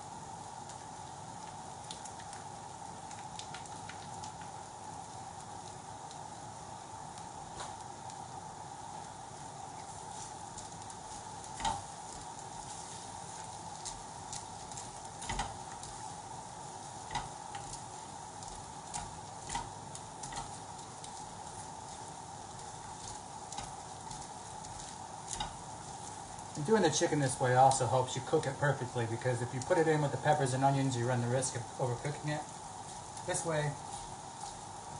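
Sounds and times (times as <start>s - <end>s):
vegetables sizzling in a wok: 0.0s - 34.9s.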